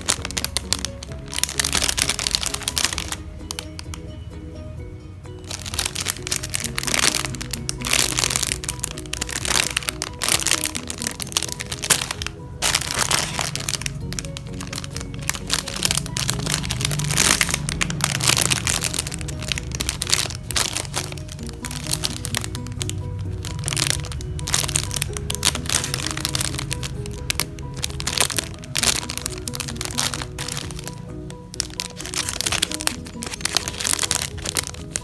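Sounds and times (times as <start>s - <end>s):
foam toys crinkling: 0.0s - 4.0s, 5.4s - 35.0s
background music: 0.0s - 35.0s.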